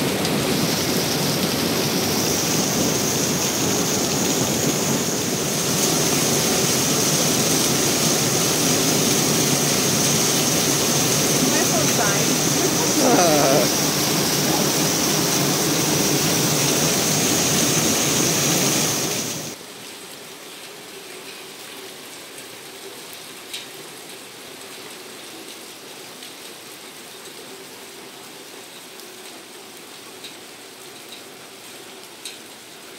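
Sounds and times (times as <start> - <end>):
heavy rain on patio: 0.0 - 32.9
soft rain on foliage: 0.0 - 32.9.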